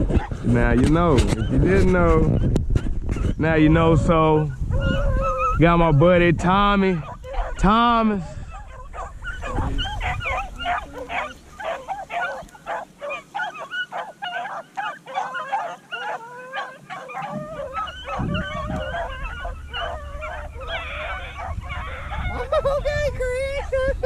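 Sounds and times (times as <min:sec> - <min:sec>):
dogs barking and yipping: 0:00.0 - 0:06.2, 0:06.9 - 0:24.0.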